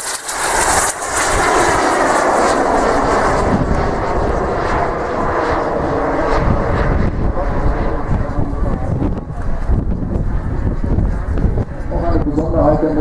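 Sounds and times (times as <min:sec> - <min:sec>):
model jet engines whining: 0:00.0 - 0:13.0.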